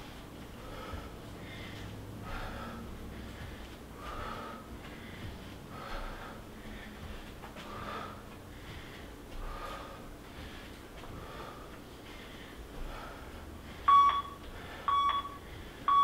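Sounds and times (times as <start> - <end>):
man breathing hard: 0.0 - 16.0.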